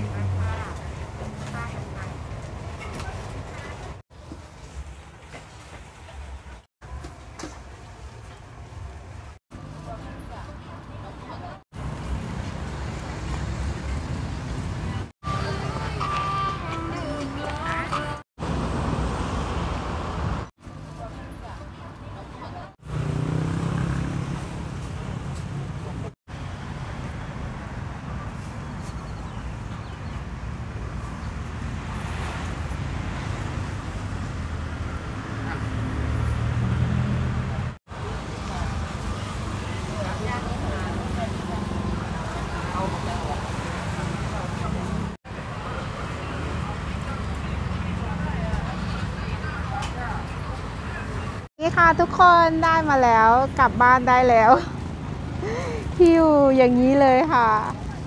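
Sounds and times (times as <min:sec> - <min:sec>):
outdoor market rumble: 0:00.0 - 0:58.0.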